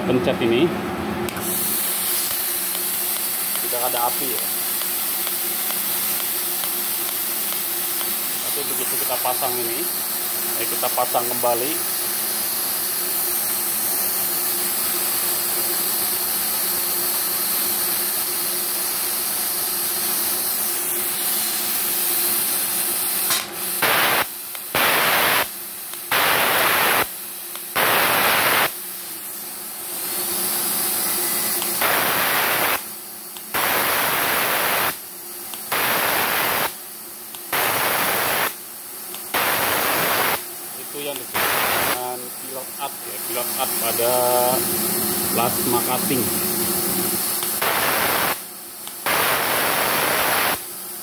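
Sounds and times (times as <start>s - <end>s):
plasma cutter air hiss: 1.3s - 51.0s
plasma cutter arc bursts: 1.4s - 30.2s, 30.8s - 44.7s, 45.3s - 51.0s.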